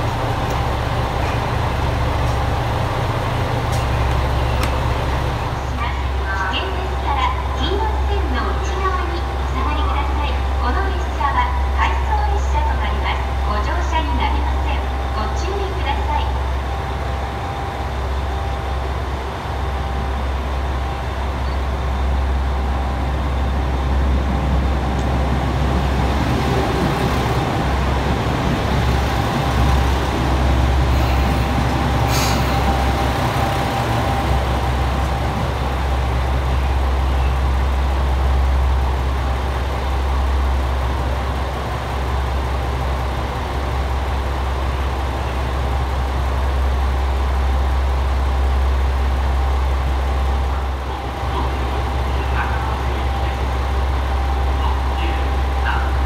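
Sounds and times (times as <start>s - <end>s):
diesel railcar engines running: 0.0s - 56.0s
steady low rumble: 0.0s - 56.0s.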